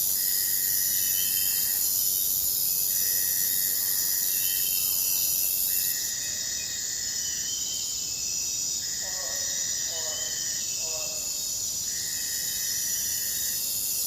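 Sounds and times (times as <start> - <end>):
low steady insect call: 0.0 - 14.0.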